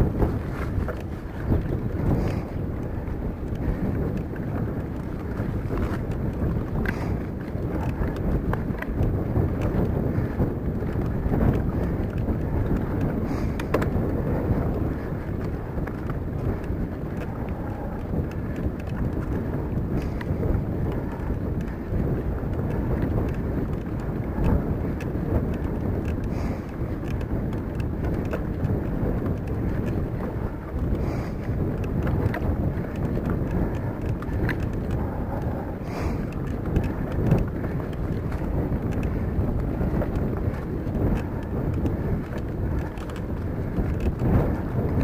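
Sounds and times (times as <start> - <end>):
vehicle rumbling: 0.0 - 45.0
wind buffeting microphone: 0.0 - 45.0.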